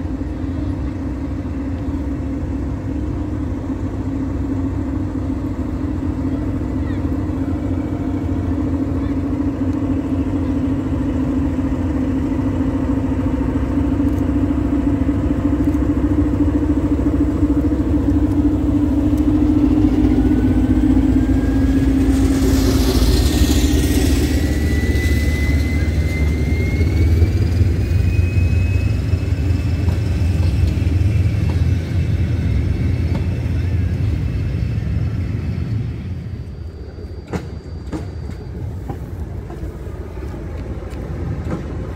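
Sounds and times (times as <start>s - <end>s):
diesel locomotive engine under load: 0.0s - 41.9s
high rising whine: 0.9s - 41.7s.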